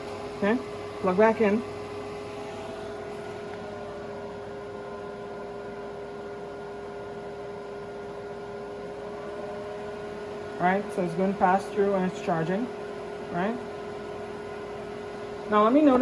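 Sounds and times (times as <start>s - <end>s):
cooling fans running: 0.0s - 16.0s
induction cooktop hum and whine: 0.0s - 16.0s.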